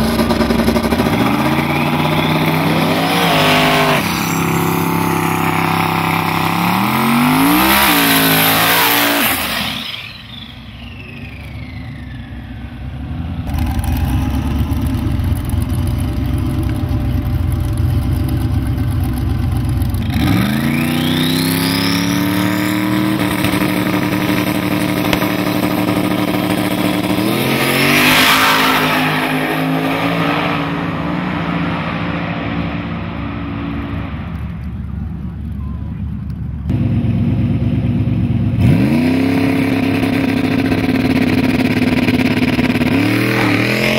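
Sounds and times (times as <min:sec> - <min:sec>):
race car engines revving: 0:00.0 - 0:43.9.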